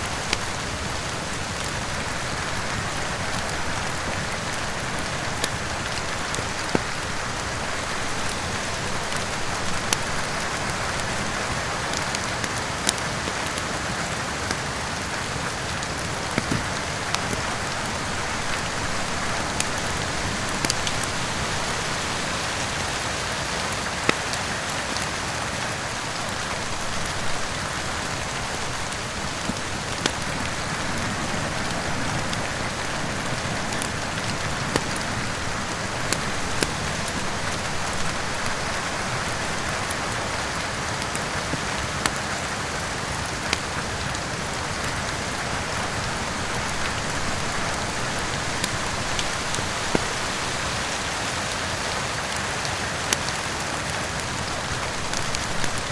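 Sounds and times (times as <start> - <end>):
steady rain hiss: 0.0 - 55.9
wood fire crackling: 0.0 - 55.9.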